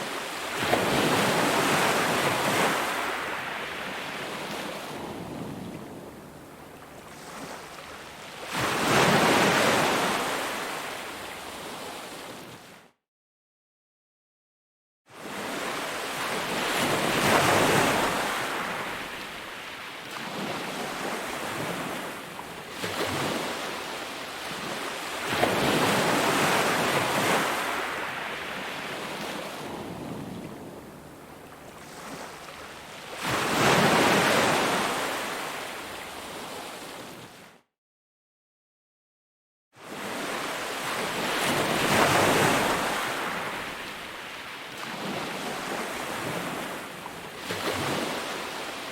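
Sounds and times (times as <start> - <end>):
ocean waves breaking on shore: 0.0 - 12.8, 15.1 - 37.6, 39.8 - 48.9.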